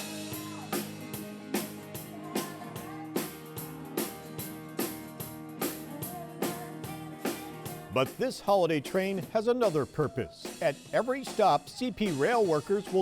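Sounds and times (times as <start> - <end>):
band playing with drums and guitar: 0.0 - 13.0.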